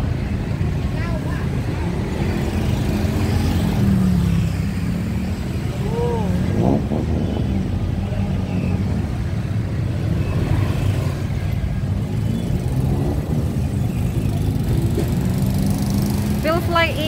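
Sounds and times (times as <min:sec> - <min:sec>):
cars and motorbikes passing: 0:00.0 - 0:17.0.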